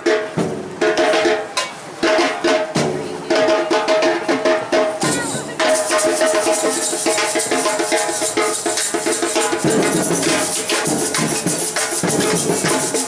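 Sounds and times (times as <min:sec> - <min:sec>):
drums and hand percussion: 0:00.0 - 0:13.0.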